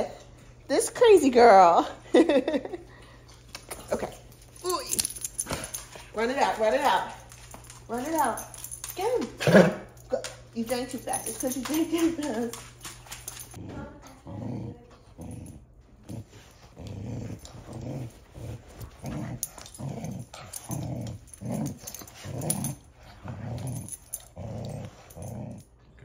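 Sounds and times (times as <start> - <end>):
dogs play-growling: 3.1 - 10.5, 11.1 - 26.0.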